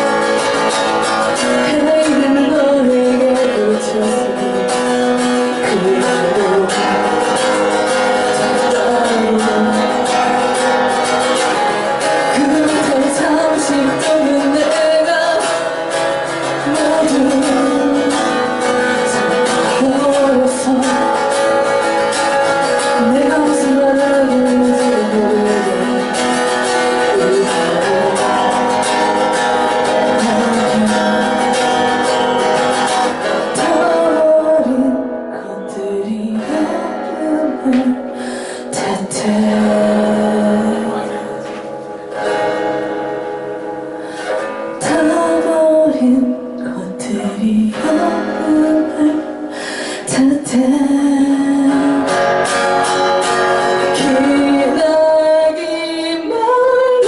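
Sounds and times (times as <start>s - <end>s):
woman singing: 0.0s - 41.4s, 44.7s - 57.0s
acoustic guitar strumming: 0.0s - 57.0s.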